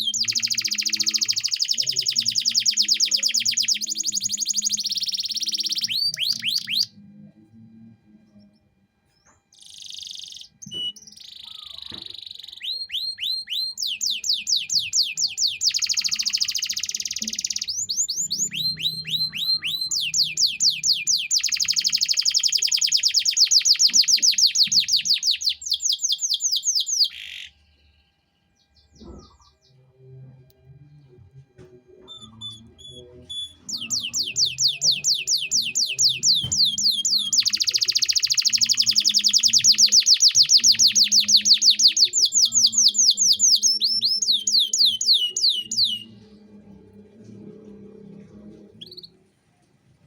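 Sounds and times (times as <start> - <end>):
canary singing trills: 0.0 - 7.3, 8.2 - 29.9, 32.0 - 46.6.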